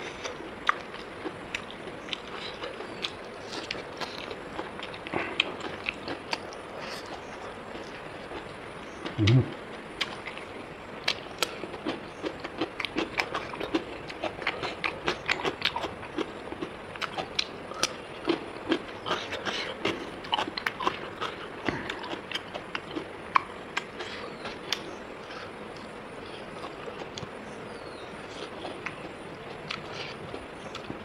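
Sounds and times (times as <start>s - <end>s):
chewing and lip-smacking: 0.0s - 27.3s, 28.2s - 31.0s.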